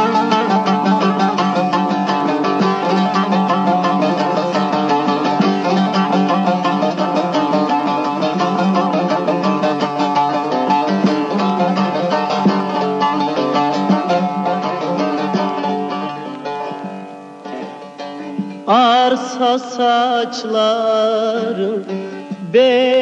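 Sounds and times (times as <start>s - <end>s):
plucked lute strumming: 0.0s - 23.0s.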